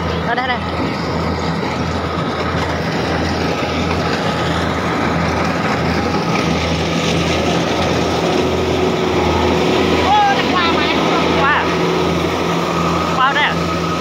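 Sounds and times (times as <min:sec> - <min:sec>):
farm machine engine humming: 0:00.0 - 0:14.0.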